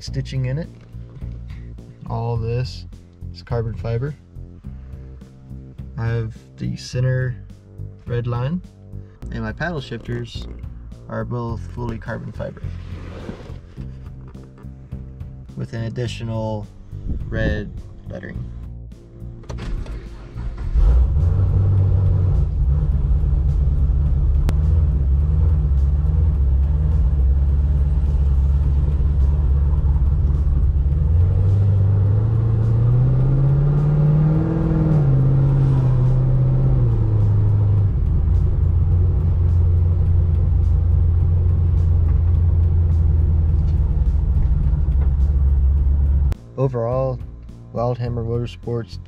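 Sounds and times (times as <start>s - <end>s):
car engine rumbling: 0.0s - 48.8s.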